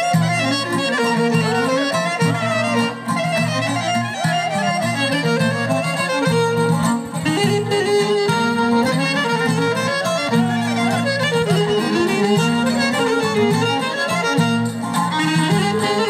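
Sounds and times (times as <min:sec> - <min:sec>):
violin melody with slides: 0:00.0 - 0:16.0.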